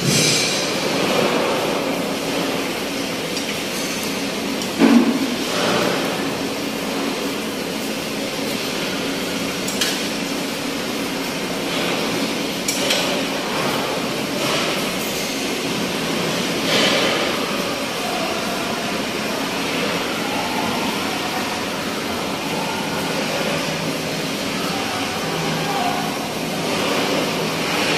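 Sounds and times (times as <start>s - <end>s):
low working hum: 0.0s - 27.9s.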